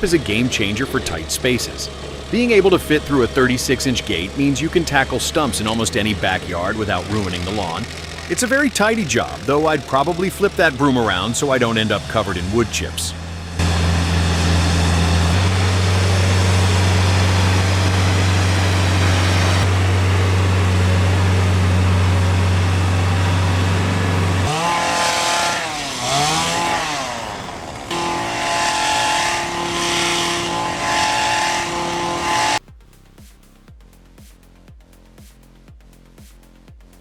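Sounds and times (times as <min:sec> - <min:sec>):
stump grinder engine running: 0:00.0 - 0:32.6.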